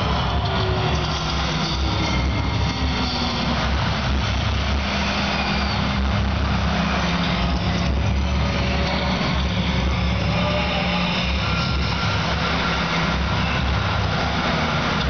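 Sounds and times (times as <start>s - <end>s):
crowd roaring: 0.0s - 15.0s.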